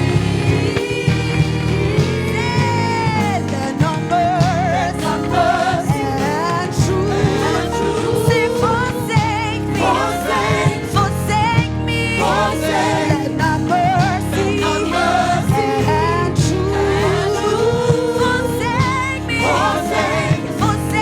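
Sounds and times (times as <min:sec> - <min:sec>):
band with steady drum beat: 0:00.0 - 0:21.0
voices singing with vibrato: 0:00.0 - 0:21.0.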